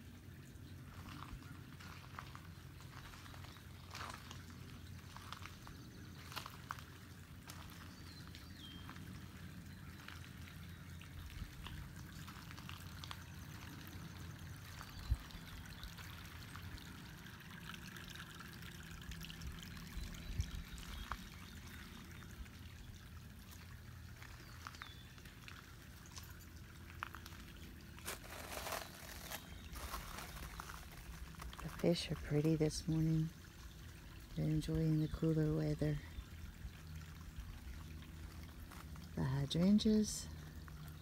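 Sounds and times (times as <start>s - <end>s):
water pouring and trickling: 0.0s - 41.0s.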